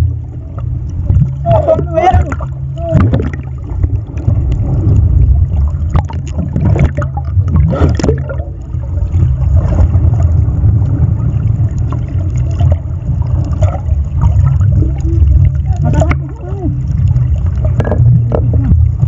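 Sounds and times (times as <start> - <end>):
muffled underwater rumble and gurgling: 0.0 - 19.0.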